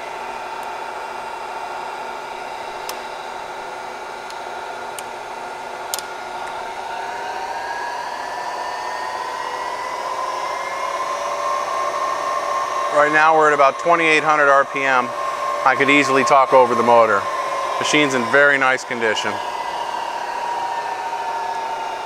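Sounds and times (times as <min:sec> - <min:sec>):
mill spindle whine: 0:00.0 - 0:22.0.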